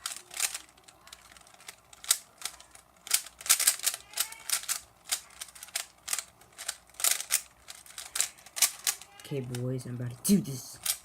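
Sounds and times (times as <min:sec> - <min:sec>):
puzzle cube clicking: 0:00.0 - 0:09.6, 0:10.3 - 0:11.0.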